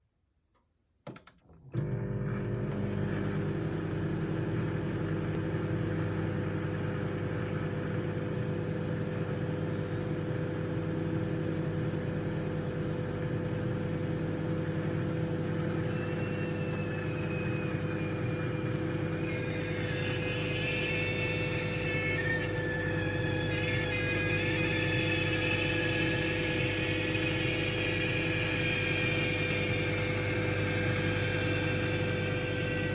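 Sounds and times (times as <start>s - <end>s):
microwave oven humming: 1.5s - 32.9s.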